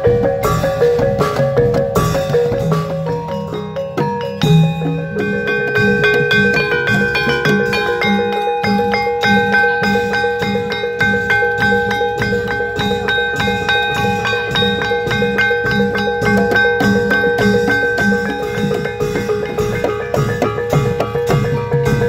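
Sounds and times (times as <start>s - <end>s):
metallophone keys struck with mallets: 0.0s - 22.0s.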